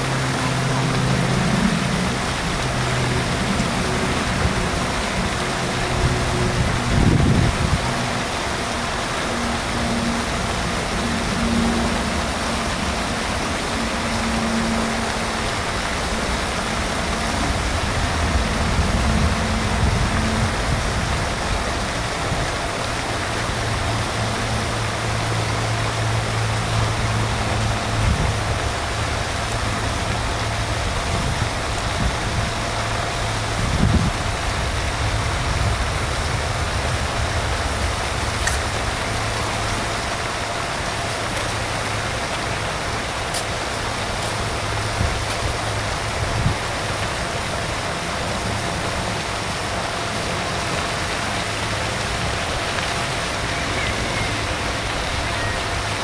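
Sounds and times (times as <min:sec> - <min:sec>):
low hum: 0:00.0 - 0:46.6
steady rushing noise: 0:00.0 - 0:56.0.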